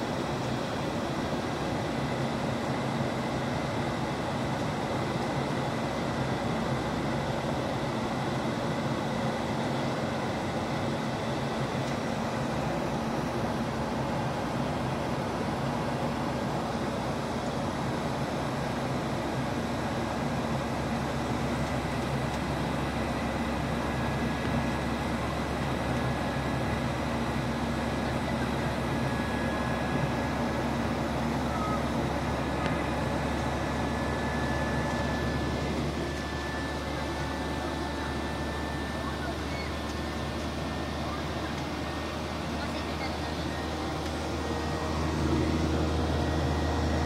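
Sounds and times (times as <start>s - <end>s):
jet engine hum: 0.0s - 47.0s.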